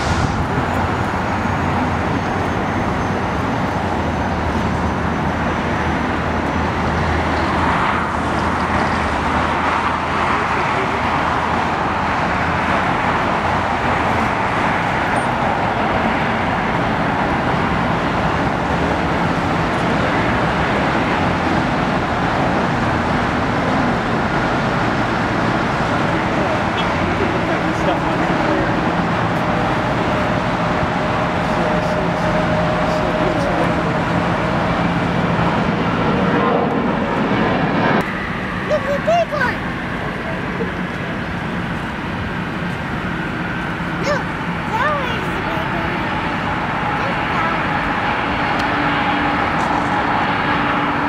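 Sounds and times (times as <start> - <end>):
jet engines roaring: 0.0 - 51.0.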